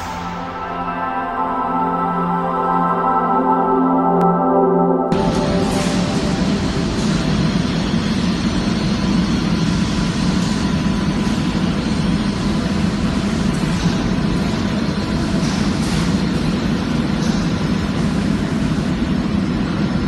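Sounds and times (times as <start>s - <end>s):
dense industrial machinery hum: 0.0s - 4.4s, 5.0s - 20.0s.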